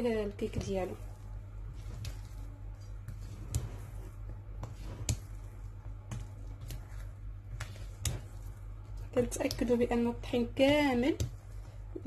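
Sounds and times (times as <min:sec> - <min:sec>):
spatula stirring thick batter: 0:00.0 - 0:12.0.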